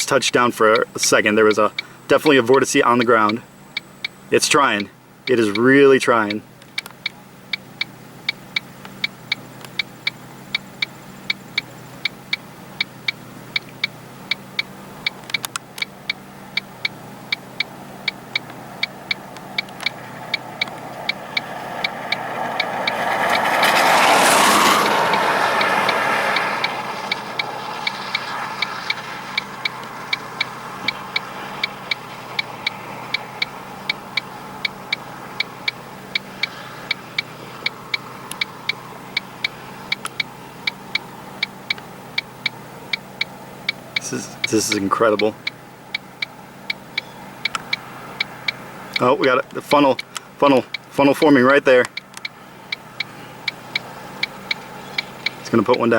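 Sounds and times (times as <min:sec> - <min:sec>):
car engine idling: 0:00.0 - 0:55.9
hazard-light flasher clicking: 0:06.5 - 0:44.7, 0:45.4 - 0:49.1, 0:51.8 - 0:55.5.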